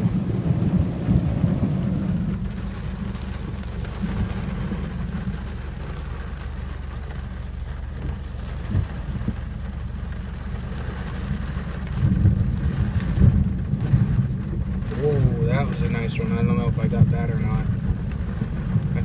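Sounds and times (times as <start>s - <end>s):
rolling thunder rumble: 0.0s - 19.0s
steady rain: 0.0s - 19.0s.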